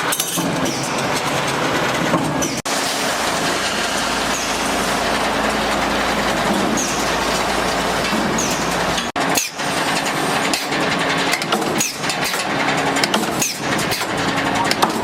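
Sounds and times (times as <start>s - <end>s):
punching and shearing machinery: 0.0s - 15.0s.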